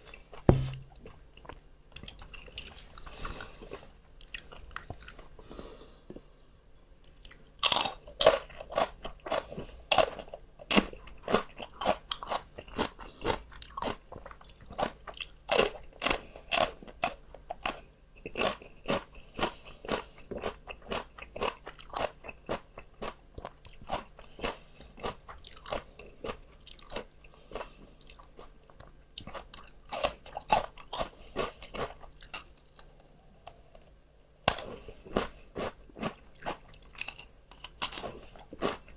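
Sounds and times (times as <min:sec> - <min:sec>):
crunchy chewing of raw vegetables: 0:00.0 - 0:06.4, 0:07.0 - 0:38.9.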